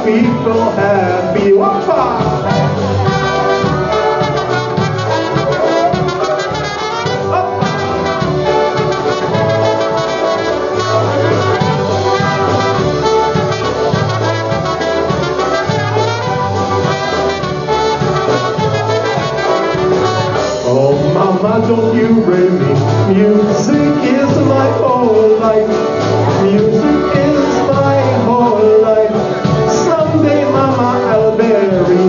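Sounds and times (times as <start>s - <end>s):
polka band playing: 0.0s - 32.0s.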